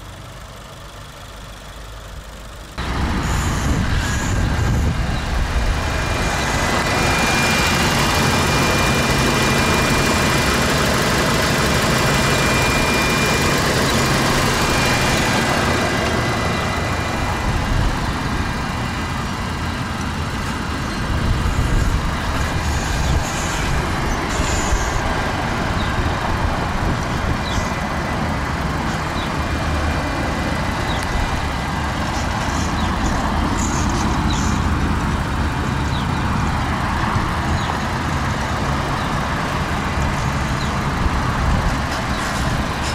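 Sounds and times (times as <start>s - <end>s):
motor vehicle rumble and hiss: 0.0s - 42.9s.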